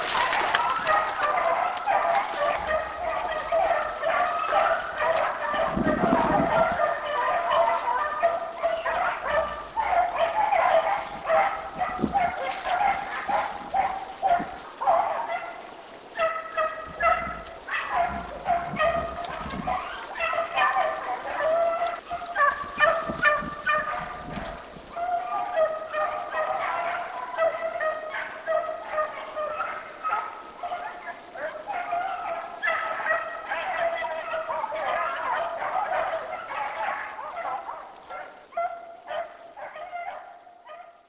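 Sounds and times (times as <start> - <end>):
beagles baying: 0.0 - 41.0.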